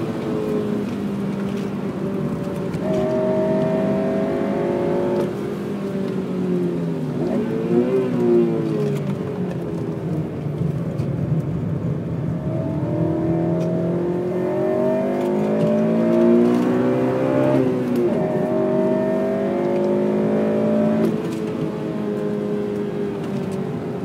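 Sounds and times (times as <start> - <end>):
car engine revving: 0.0 - 10.0, 11.7 - 23.8.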